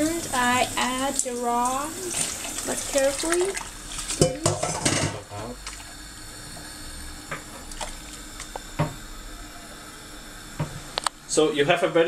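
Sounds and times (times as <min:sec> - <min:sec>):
boiling water hissing: 0:00.0 - 0:12.0.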